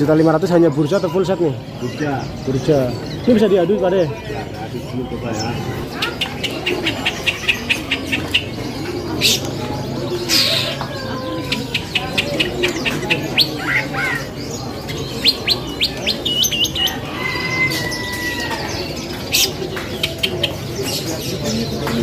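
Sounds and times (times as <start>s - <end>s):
low steady hubbub: 0.0s - 22.0s
songbirds singing: 0.0s - 22.0s.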